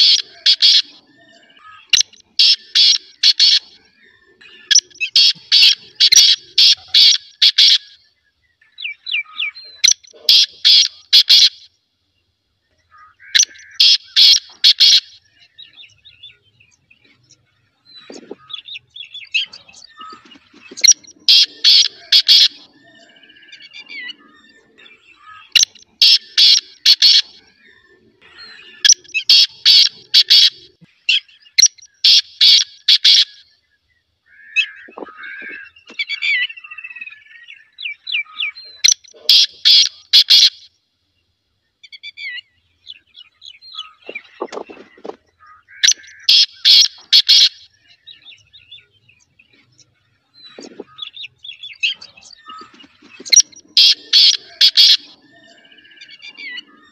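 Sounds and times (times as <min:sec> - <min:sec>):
partridge harsh calls: 0:00.0 - 0:11.8, 0:12.8 - 0:33.6, 0:34.2 - 0:40.8, 0:41.8 - 0:56.9
small birds chirping: 0:00.0 - 0:56.9.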